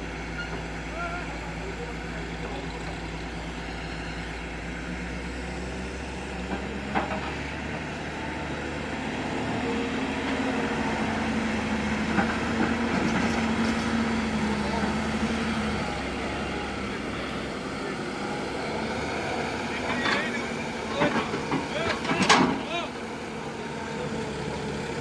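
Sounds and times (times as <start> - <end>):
heavy machinery diesel engines: 0.0 - 25.0.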